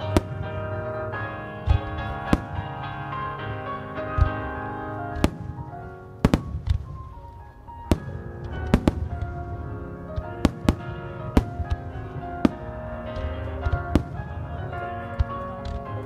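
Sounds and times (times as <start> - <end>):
fireworks bangs: 0.0 - 16.0
music with long held tones: 0.0 - 16.0.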